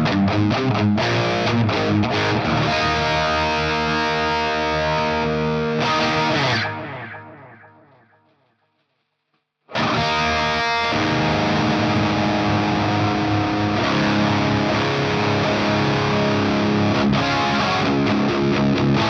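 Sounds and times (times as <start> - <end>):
distorted electric guitar: 0.0 - 8.9, 9.7 - 19.0.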